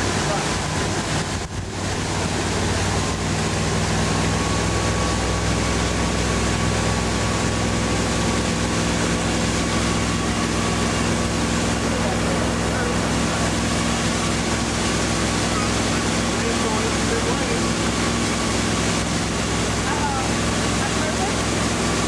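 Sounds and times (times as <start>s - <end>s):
churning water: 0.0s - 22.0s
motorboat engine hum: 0.0s - 22.0s.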